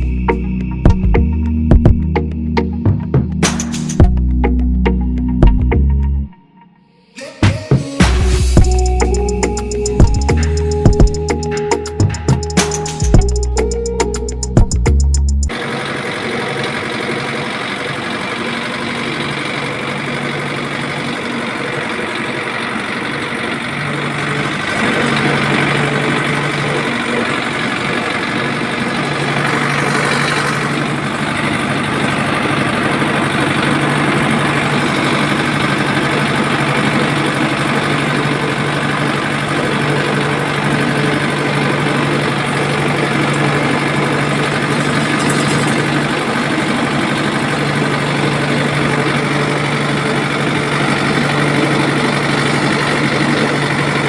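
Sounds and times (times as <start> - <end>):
motor humming: 7.9 - 54.0.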